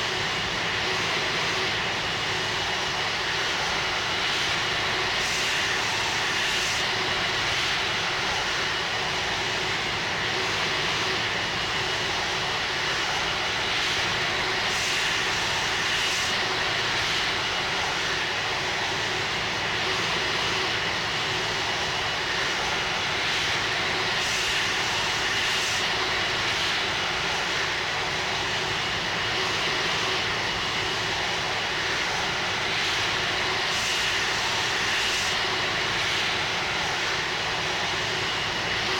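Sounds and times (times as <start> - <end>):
faint steady whine: 0.0 - 38.9
jet engines running: 0.0 - 38.9.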